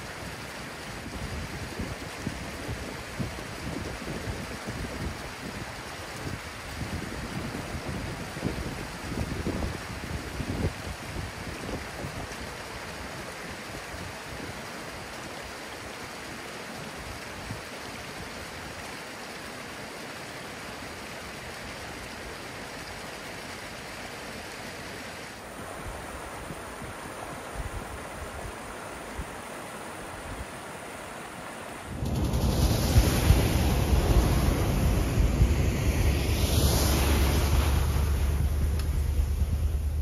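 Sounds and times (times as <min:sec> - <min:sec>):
creek rushing over rocks: 0:00.0 - 0:40.0.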